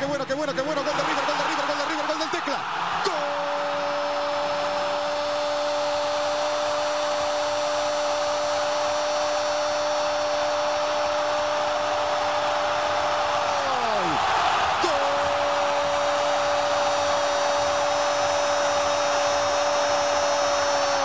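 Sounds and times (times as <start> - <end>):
stadium crowd roaring: 0.0 - 21.0.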